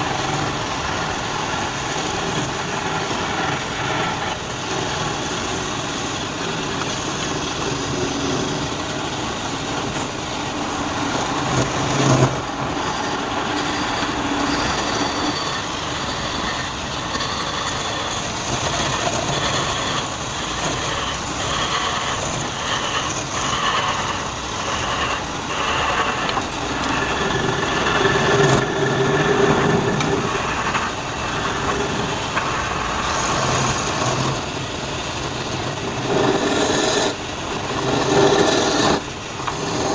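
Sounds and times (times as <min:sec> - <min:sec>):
wood lathe turning wood: 0:00.0 - 0:39.9.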